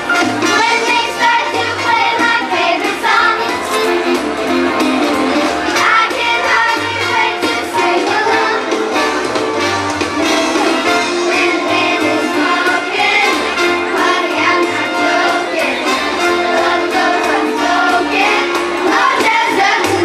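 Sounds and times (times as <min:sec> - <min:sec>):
children's chorus singing: 0:00.0 - 0:04.2, 0:05.6 - 0:20.0
instrumental accompaniment with bass: 0:00.0 - 0:20.0.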